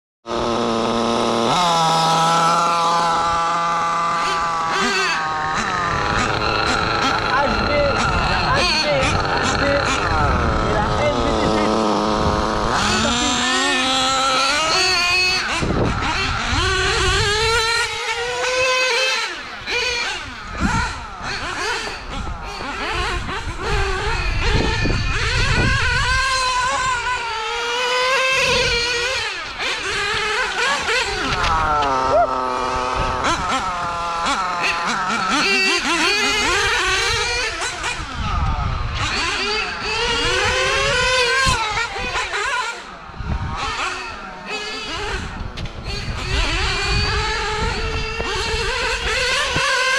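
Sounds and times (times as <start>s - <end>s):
model car engines revving: 0.2s - 49.9s.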